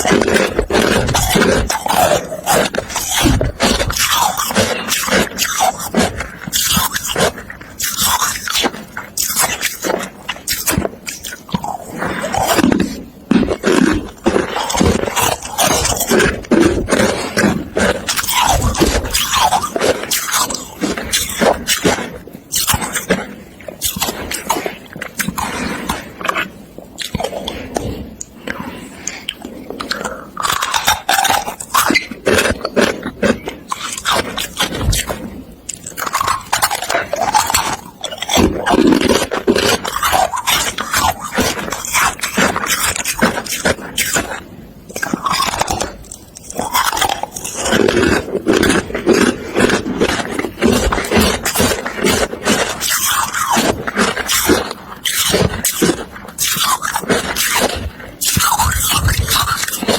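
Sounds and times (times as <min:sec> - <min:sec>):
person crunching ice: 0:00.0 - 0:59.9.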